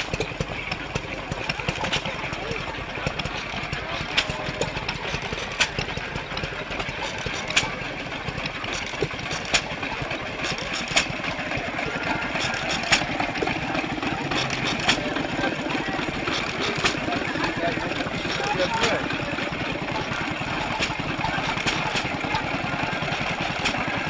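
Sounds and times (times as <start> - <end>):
stationary engines chugging: 0.0 - 24.0.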